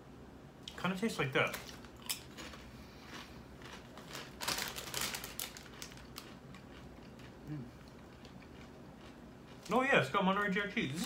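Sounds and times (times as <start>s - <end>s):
chip bag crinkling: 1.5s - 11.0s.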